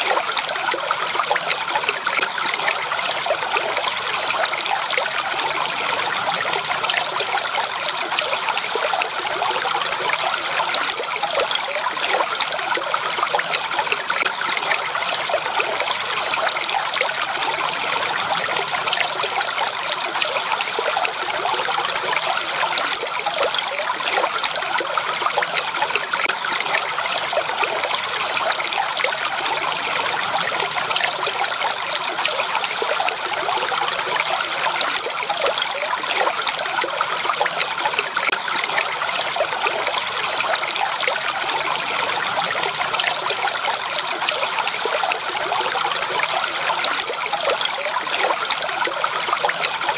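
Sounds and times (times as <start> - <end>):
stream trickling over stones: 0.0 - 49.9.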